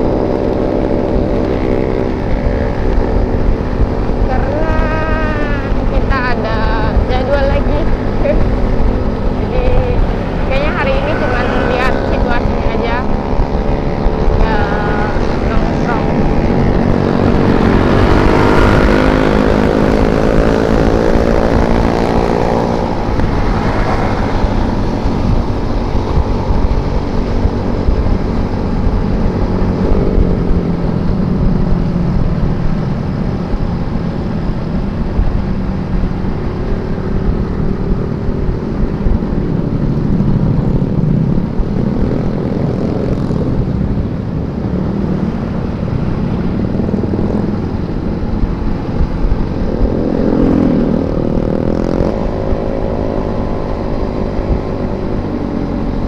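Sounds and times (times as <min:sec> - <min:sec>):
engine accelerating: 0:00.0 - 0:56.0
motorcycle engines rumbling: 0:00.0 - 0:56.0
wind buffeting microphone: 0:00.0 - 0:56.0.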